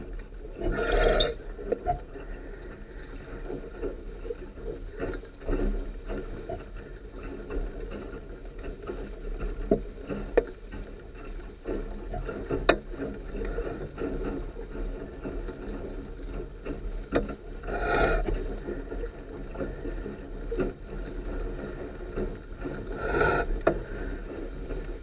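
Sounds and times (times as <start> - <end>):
water splashing along hull: 0.0 - 25.0.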